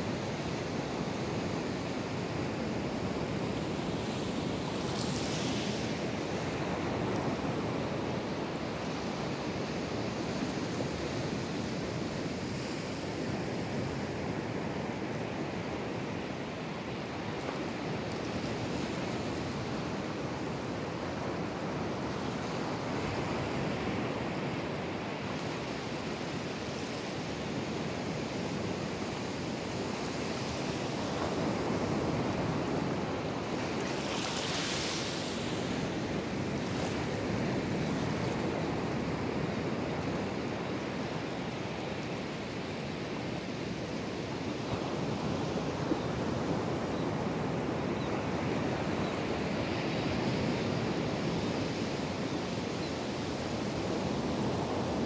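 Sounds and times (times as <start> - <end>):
surf washing over beach: 0.0 - 55.0.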